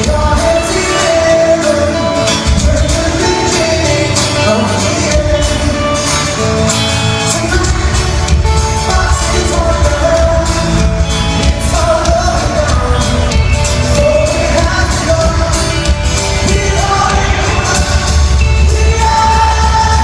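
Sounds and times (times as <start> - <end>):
amplified guitars: 0.0 - 20.0
drums: 0.0 - 20.0
heavy bass: 0.0 - 20.0
sung vocals: 0.0 - 20.0.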